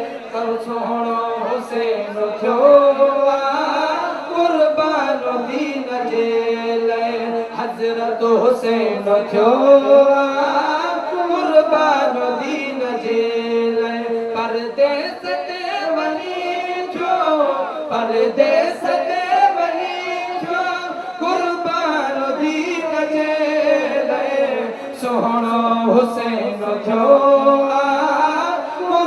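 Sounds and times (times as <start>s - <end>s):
man singing devotional song: 0.0s - 29.0s.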